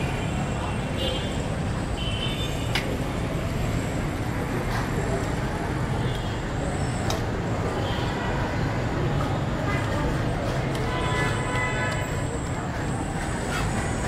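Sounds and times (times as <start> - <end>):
faint voices murmuring: 2.6 - 14.0.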